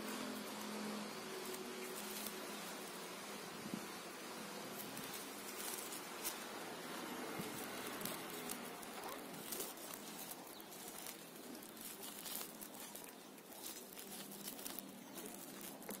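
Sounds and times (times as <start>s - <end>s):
leaves brushing: 0.0s - 16.0s
plastic strip crinkling: 0.4s - 16.0s.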